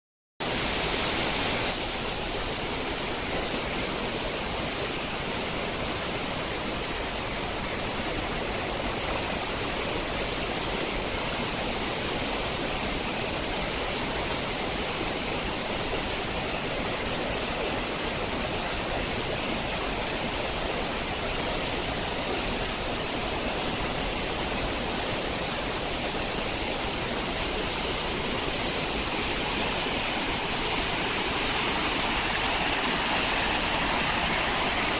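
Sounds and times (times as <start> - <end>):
stream rushing over rocks: 0.4 - 34.9.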